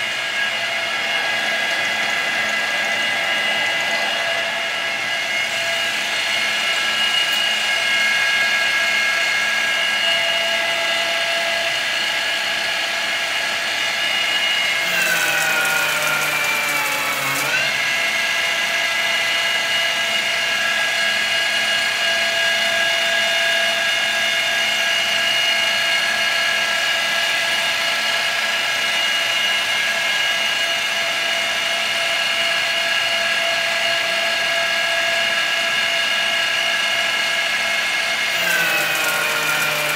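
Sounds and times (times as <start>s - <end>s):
milling machine spindle whine: 0.0s - 39.9s.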